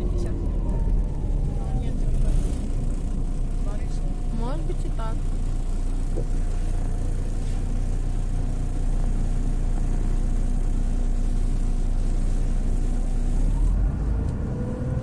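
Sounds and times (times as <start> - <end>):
bus diesel engine from inside: 0.0 - 15.0.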